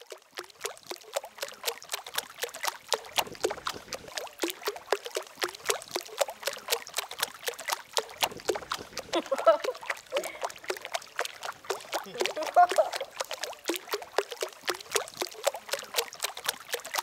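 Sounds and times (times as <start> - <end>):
water drops plopping on water: 0.0 - 17.0.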